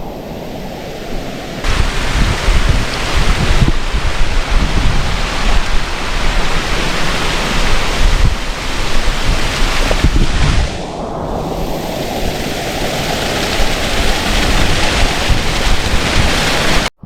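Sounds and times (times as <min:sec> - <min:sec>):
waterfall rushing: 0:00.0 - 0:10.8, 0:11.5 - 0:16.9
low rumbling: 0:01.6 - 0:17.0.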